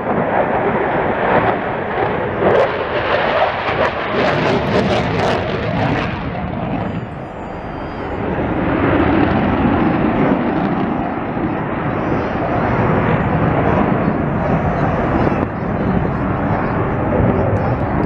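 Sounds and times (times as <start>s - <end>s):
crackling fighter jet flyover: 0.0s - 18.0s.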